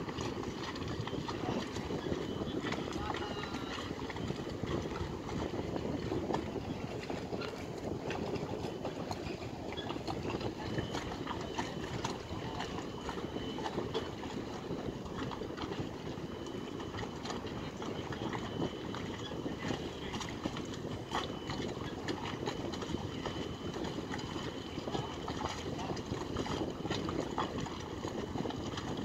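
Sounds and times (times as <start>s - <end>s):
harbour low rumble: 0.0s - 29.0s.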